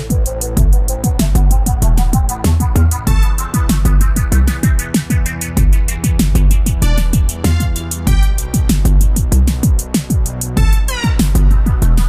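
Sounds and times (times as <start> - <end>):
electronic dance music: 0.0 - 12.0
deep bass with falling sweeps: 0.2 - 12.0.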